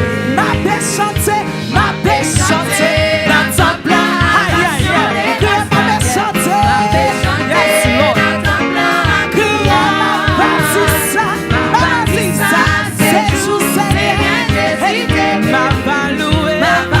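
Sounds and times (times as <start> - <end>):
live worship band playing: 0.0 - 17.0
people singing: 0.0 - 17.0.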